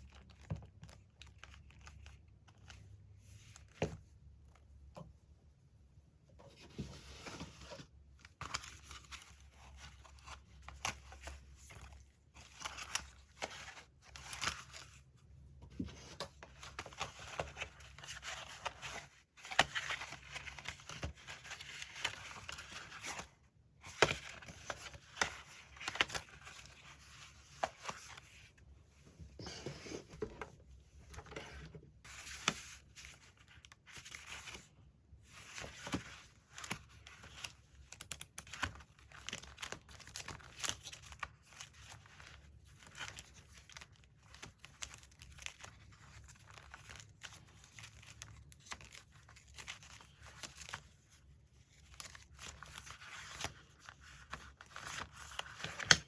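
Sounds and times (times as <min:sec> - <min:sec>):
paper rustling and crinkling: 0:06.4 - 0:56.0.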